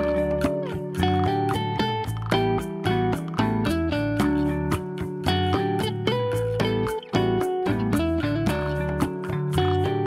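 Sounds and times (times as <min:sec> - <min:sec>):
low bass: 0:00.0 - 0:10.0
plucked guitar-like notes: 0:00.0 - 0:10.0.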